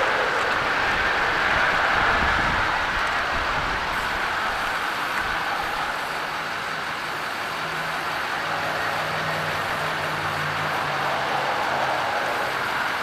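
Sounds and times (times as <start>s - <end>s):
motor vehicle noise: 0.0s - 13.0s.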